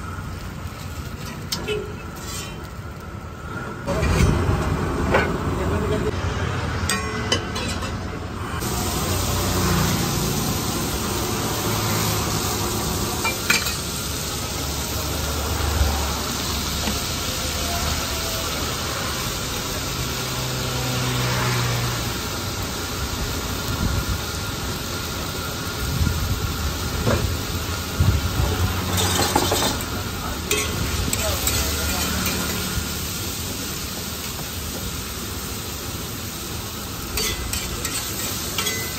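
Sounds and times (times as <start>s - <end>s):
vegetables sizzling in hot oil: 0.0s - 5.1s, 8.6s - 38.9s.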